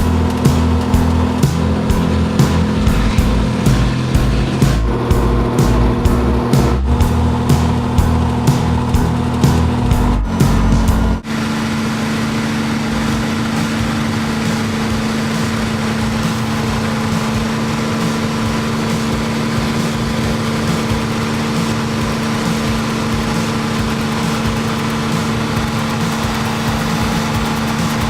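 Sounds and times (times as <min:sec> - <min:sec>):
piston aircraft engine idling: 0:00.0 - 0:28.0.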